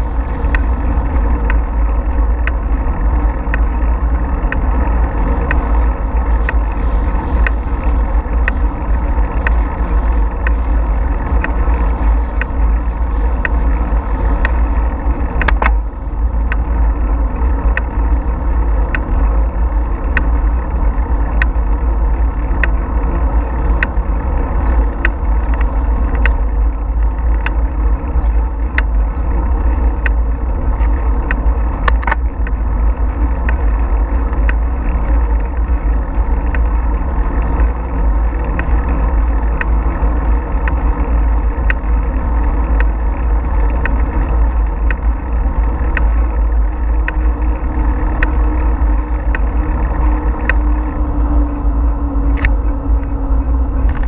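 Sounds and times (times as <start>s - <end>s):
bicycle rolling on pavement: 0.0s - 54.0s
sharp ticks: 0.0s - 54.0s
wind rumble: 0.0s - 54.0s.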